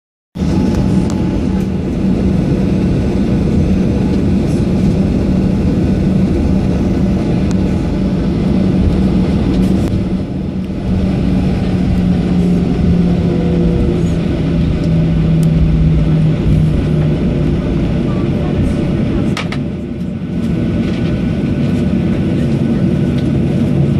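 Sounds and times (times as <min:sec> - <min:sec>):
jet engine drone in cabin: 0:00.4 - 0:23.9.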